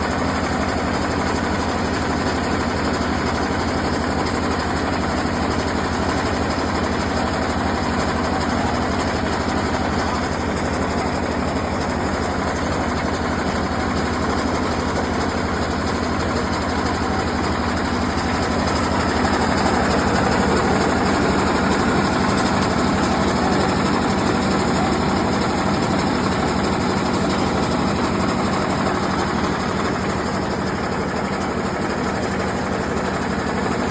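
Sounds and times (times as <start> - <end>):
heavy engine droning: 0.0 - 33.9.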